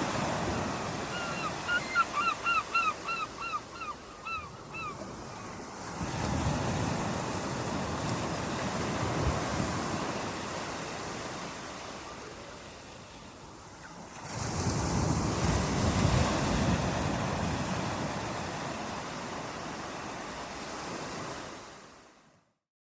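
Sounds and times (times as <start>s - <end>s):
ocean waves breaking: 0.0s - 22.2s.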